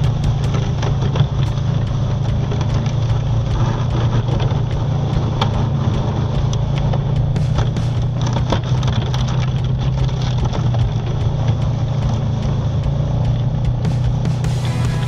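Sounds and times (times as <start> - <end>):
atv engine under load: 0.0 - 15.0
plow pushing snow: 0.0 - 15.0.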